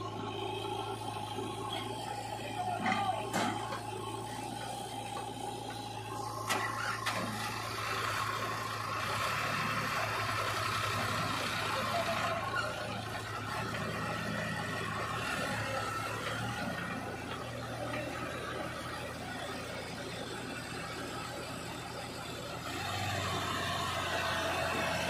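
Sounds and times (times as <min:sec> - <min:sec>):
diesel engines humming: 0:00.0 - 0:25.0.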